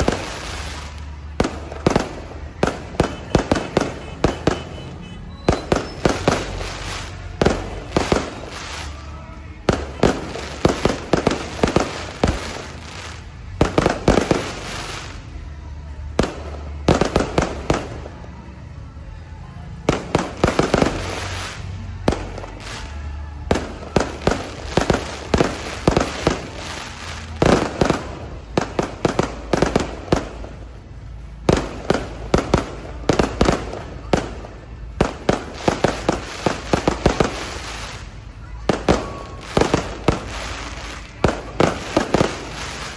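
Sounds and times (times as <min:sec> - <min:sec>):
fireworks bangs and bursts: 0:00.0 - 0:42.9.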